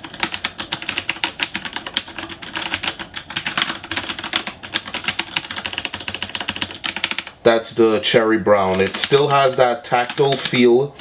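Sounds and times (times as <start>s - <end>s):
typing on mechanical keyboard: 0.0s - 7.4s, 8.6s - 11.0s.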